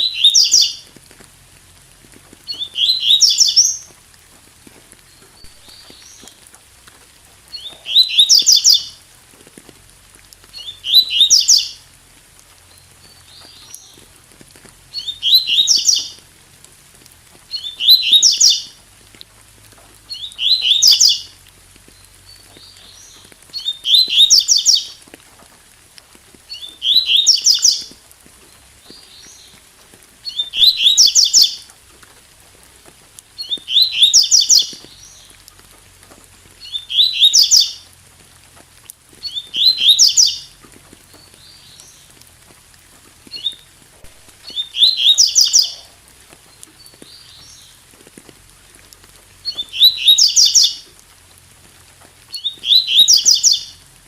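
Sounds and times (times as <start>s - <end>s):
soft bird calls: 0.0s - 1.0s, 2.3s - 9.1s, 10.2s - 16.3s, 17.0s - 18.8s, 19.8s - 25.2s, 26.3s - 38.0s, 39.1s - 42.5s, 43.2s - 48.0s, 48.7s - 51.0s, 52.2s - 53.8s
faint rain hiss: 0.0s - 54.0s.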